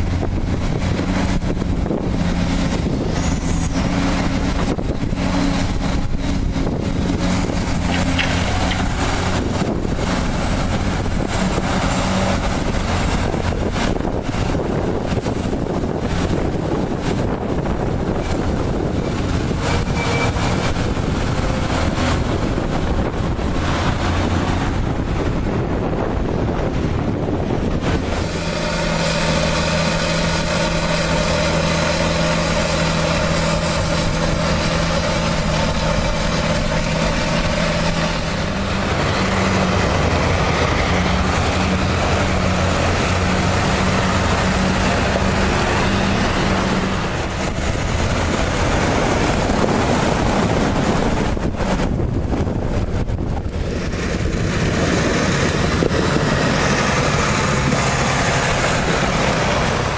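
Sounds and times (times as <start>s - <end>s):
diesel engine running: 0.0s - 59.9s
wind rumbling on microphone: 0.0s - 59.9s.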